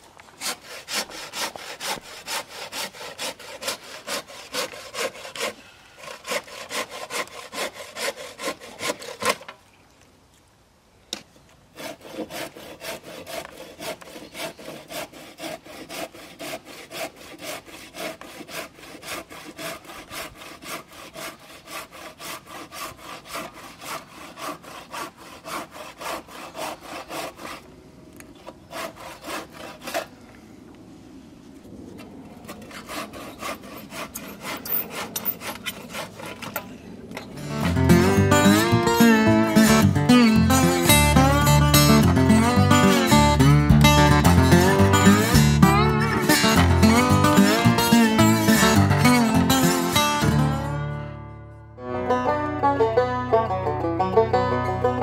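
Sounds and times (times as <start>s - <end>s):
hand saw cutting wood: 0.3s - 9.6s, 11.7s - 27.7s, 28.4s - 30.1s, 32.4s - 50.8s.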